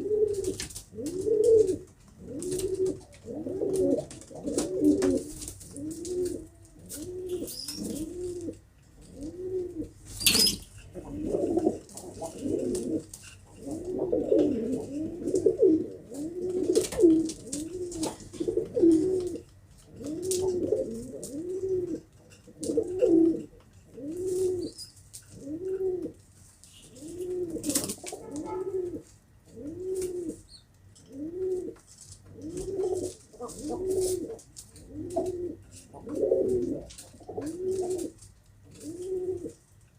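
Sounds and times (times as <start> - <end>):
pigeons cooing: 0.0 - 39.6.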